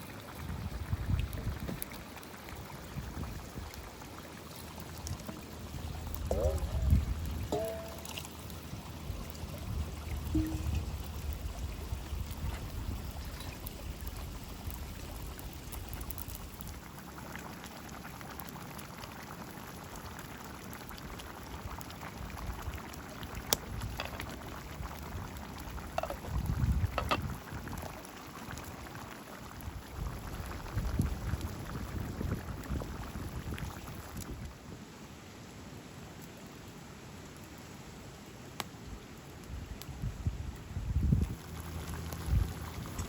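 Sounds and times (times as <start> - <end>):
liquid bubbling in a pot: 0.0 - 34.6, 40.4 - 43.0.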